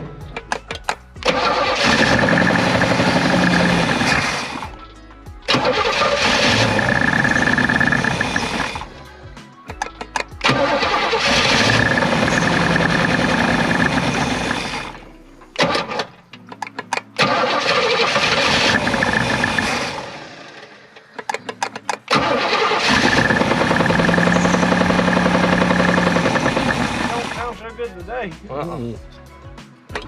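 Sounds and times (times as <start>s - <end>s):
car engine cranking and starting: 0.0s - 9.1s, 9.8s - 16.2s, 16.9s - 27.6s.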